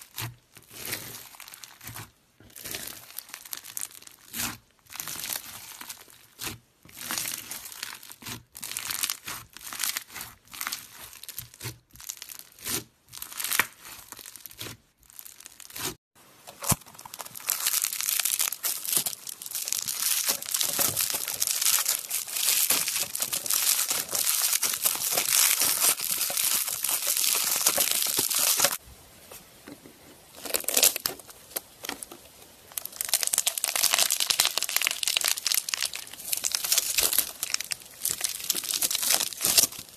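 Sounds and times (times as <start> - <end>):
crunchy slime crackling: 0.0 - 28.8, 30.3 - 39.9.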